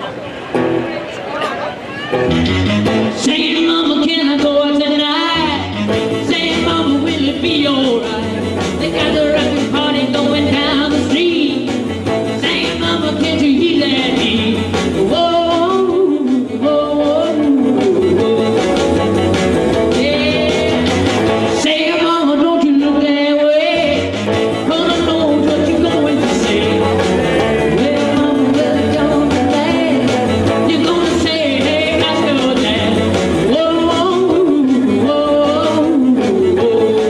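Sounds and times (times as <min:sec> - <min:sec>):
electric guitar playing: 0:00.4 - 0:01.2, 0:01.8 - 0:37.0
man singing: 0:03.1 - 0:37.0.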